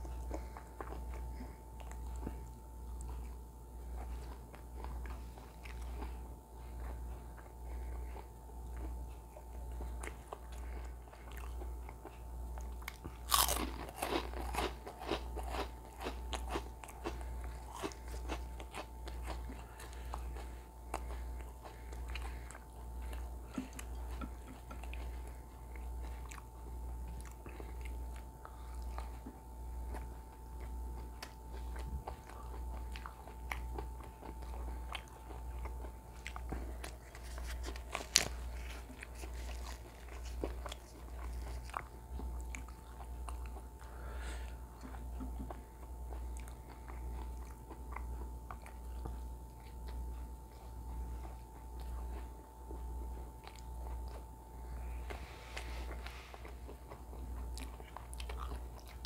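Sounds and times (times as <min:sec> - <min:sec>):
low pulsing hum: 0:00.0 - 0:59.0
man chewing with wet mouth sounds: 0:00.0 - 0:59.0.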